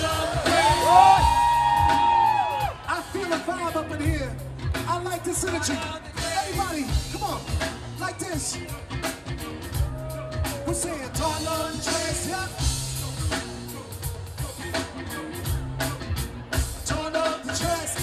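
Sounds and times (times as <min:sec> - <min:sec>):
person singing: 0:00.0 - 0:02.0, 0:05.4 - 0:18.0
bass: 0:00.0 - 0:18.0
drum kit beat: 0:00.0 - 0:18.0.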